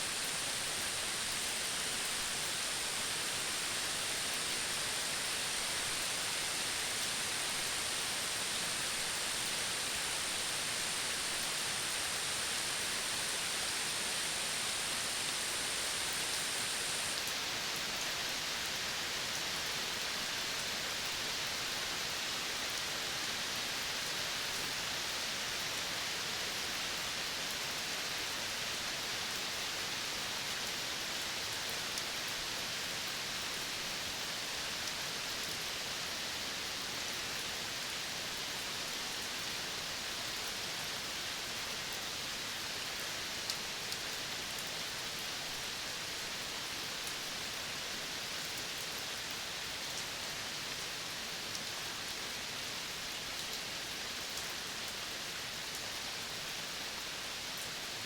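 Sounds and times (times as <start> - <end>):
steady even hiss: 0.0 - 48.6.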